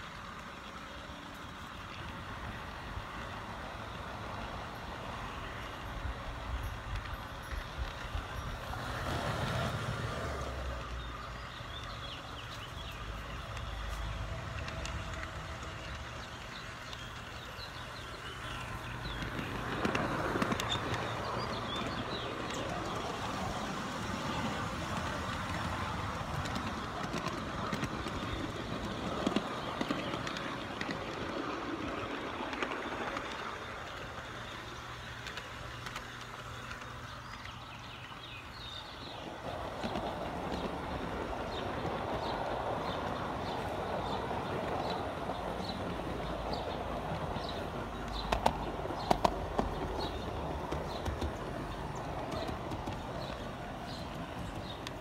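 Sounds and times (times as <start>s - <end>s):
model train humming: 0.0s - 55.0s
wheel and rail noise: 0.0s - 55.0s.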